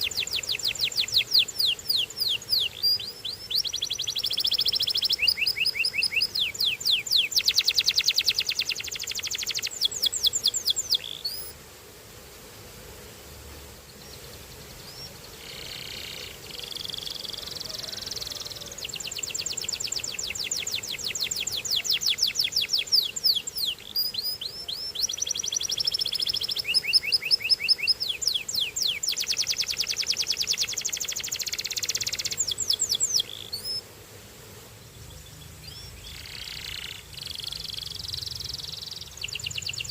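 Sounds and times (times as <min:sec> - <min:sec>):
canary singing trills: 0:00.0 - 0:11.5, 0:14.0 - 0:33.8, 0:34.9 - 0:39.9.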